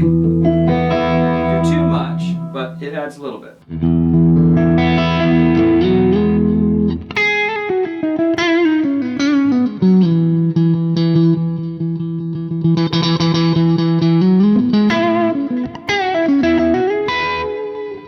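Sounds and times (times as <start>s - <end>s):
electric guitar through an amp: 0.0s - 18.0s.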